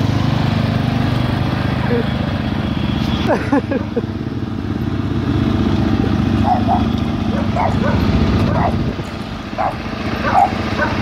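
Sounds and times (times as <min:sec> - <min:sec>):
motorcycle engine drone: 0:00.0 - 0:11.0.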